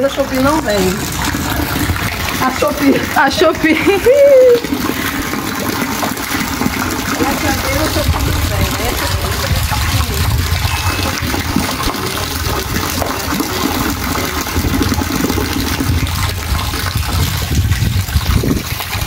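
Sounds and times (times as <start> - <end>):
heavy rain pouring: 0.0 - 19.0
water running: 0.0 - 19.0.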